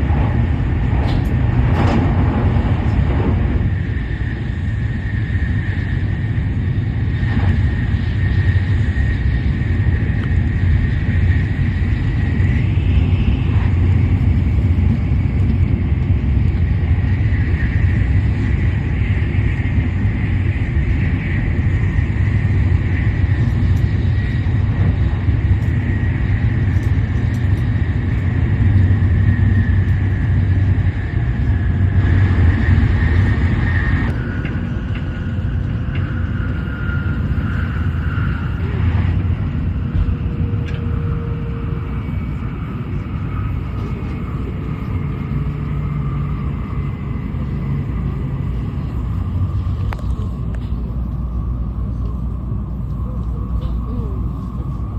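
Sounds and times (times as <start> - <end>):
high-speed train rumble and whine: 0.0 - 54.9.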